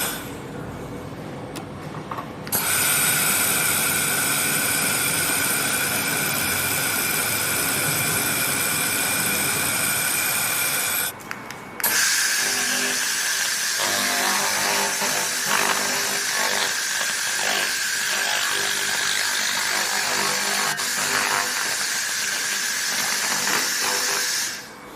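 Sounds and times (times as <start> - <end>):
laser tool hissing with high whine: 2.6 - 11.1, 11.8 - 24.8.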